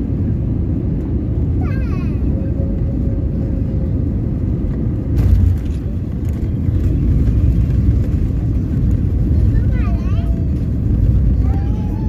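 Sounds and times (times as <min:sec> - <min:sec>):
airliner engines and wheels rumbling: 0:00.0 - 0:12.0.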